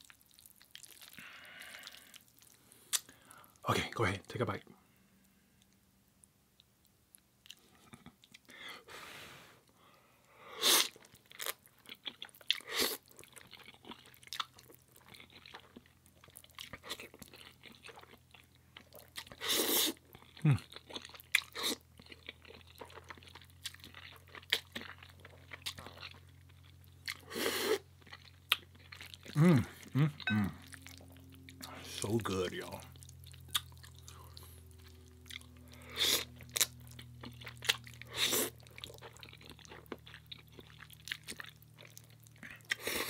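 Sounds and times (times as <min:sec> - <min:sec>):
person chewing and biting: 0:00.0 - 0:03.2, 0:10.6 - 0:32.1, 0:32.7 - 0:43.0.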